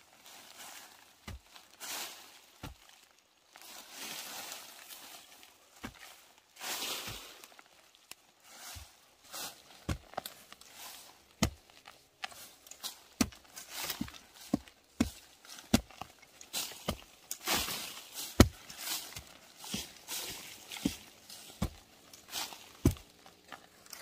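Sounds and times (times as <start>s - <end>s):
leaves rustling: 0.0s - 24.0s.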